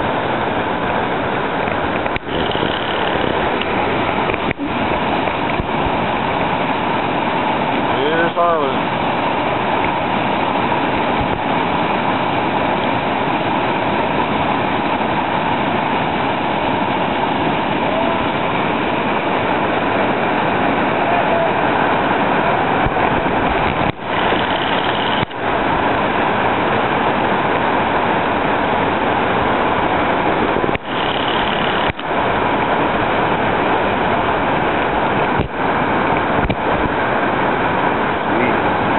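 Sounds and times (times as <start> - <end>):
whitewater rapid rushing: 0.0 - 38.9.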